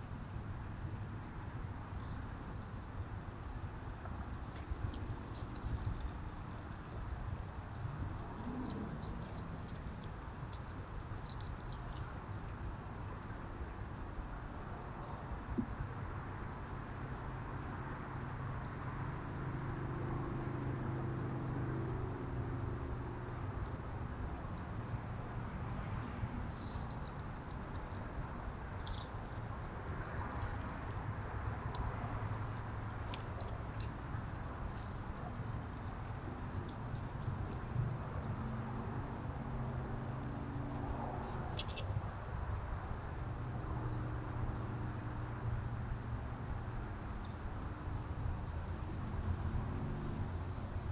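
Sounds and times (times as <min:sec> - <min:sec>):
crickets trilling: 0:00.0 - 0:50.9
low background rumble: 0:00.0 - 0:50.9.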